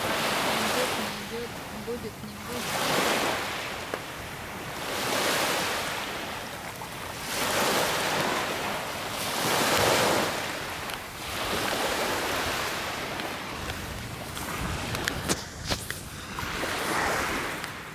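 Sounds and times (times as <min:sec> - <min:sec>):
waves washing on shore: 0:00.0 - 0:17.9.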